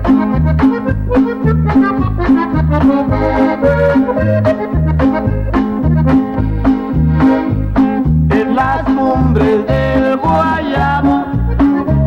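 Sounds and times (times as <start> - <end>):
accordion melody: 0.0 - 12.0
bass line: 0.0 - 12.0.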